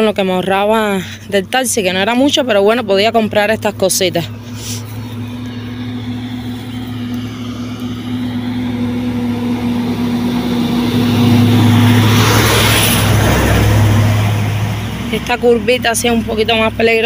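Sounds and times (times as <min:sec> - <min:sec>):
heavy truck driving past: 0:02.4 - 0:17.0.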